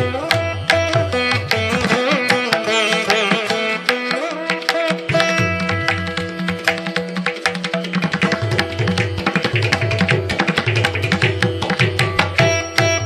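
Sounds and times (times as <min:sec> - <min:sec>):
plucked strings: 0:00.0 - 0:13.0
tabla playing: 0:00.0 - 0:13.0.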